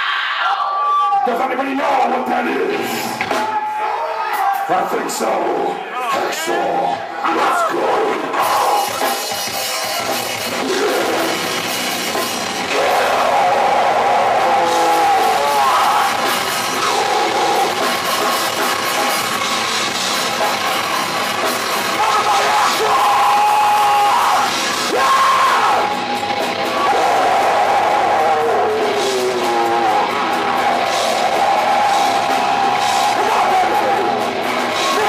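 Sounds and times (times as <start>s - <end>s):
crowd noise: 0.0s - 35.0s
heavy metal band playing live: 1.3s - 35.0s.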